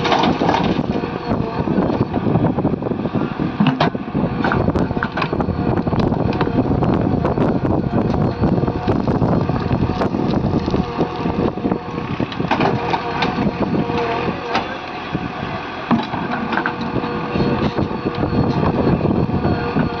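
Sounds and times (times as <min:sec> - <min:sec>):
excavator diesel engine under load: 0:00.0 - 0:20.0.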